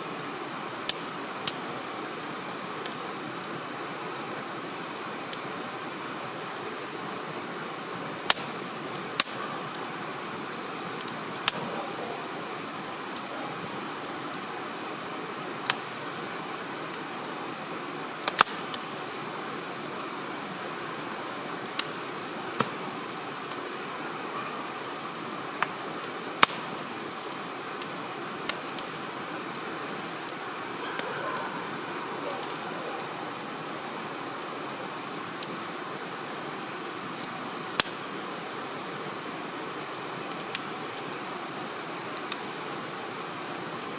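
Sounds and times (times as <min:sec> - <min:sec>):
campfire crackling and popping: 0:00.0 - 0:43.9
steady background hiss: 0:00.0 - 0:43.9.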